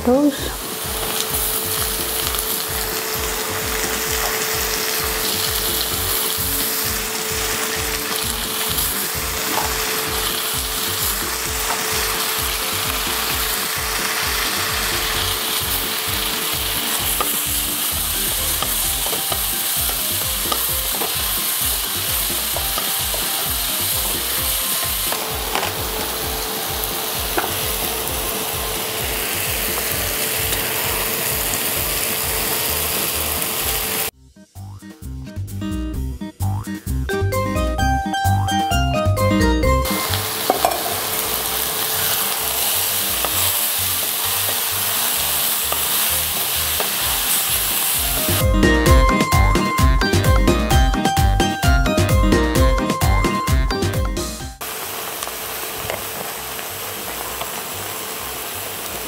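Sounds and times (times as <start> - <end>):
vegetables sizzling in butter: 0.0 - 34.2, 39.8 - 51.1, 54.6 - 59.0.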